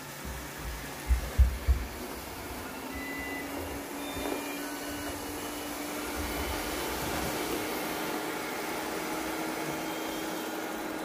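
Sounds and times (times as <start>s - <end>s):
even hum: 0.0s - 11.0s
robot vacuums whirring: 0.0s - 11.0s.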